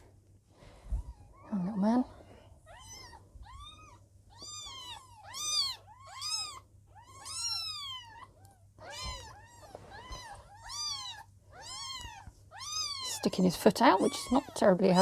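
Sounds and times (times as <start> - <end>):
kitten mewing: 2.7 - 15.0.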